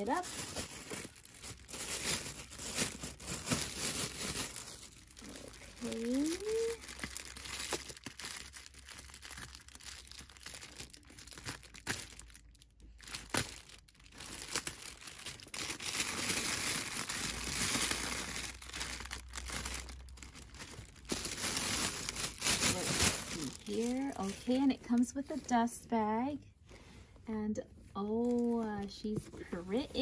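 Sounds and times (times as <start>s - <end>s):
plastic packaging crinkling: 0.0s - 25.8s, 28.0s - 30.0s.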